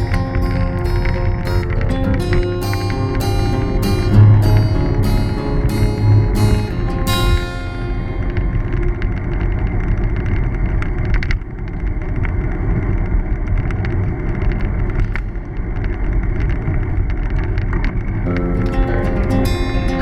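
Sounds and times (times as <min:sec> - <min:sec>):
bicycle riding rumble: 0:00.0 - 0:18.3.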